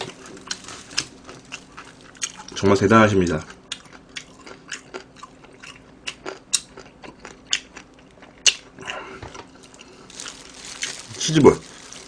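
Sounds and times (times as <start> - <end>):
chewing crunchy fried food: 0.0 - 12.0.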